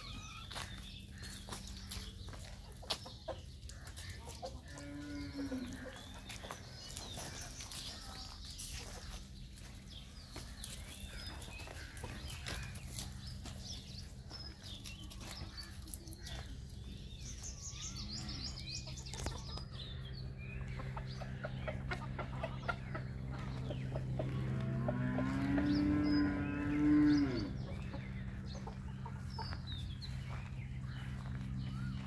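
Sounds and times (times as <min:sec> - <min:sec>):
chickens: 0:00.0 - 0:32.0
small birds chirping: 0:00.0 - 0:32.0.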